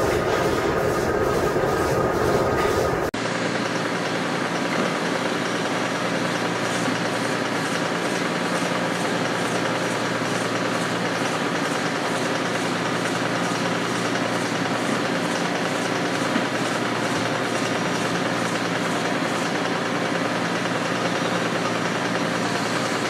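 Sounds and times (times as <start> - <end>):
machine hum and hiss: 0.0 - 23.0.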